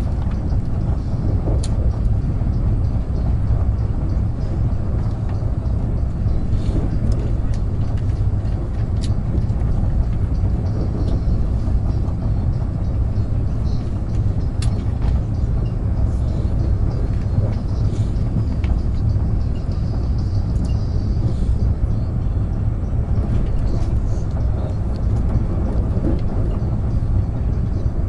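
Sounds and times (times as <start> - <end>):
train interior rumble: 0.0 - 28.0.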